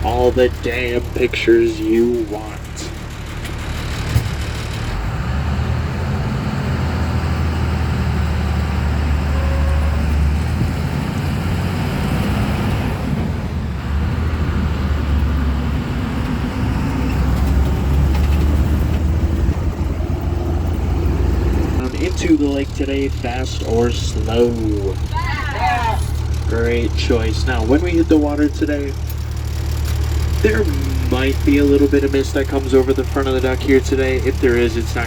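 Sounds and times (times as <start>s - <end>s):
boat engine rumbling: 0.0s - 35.0s
road and wind noise: 0.0s - 35.0s.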